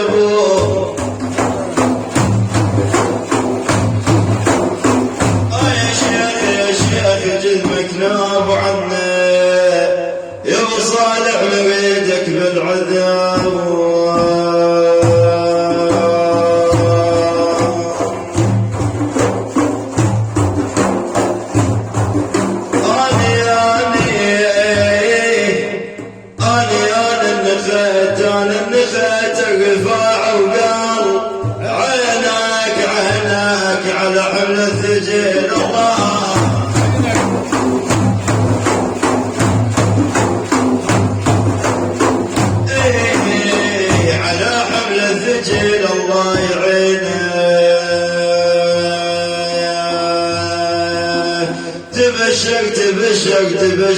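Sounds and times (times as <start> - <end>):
frame drums beating: 0.0 - 9.3, 12.8 - 47.2.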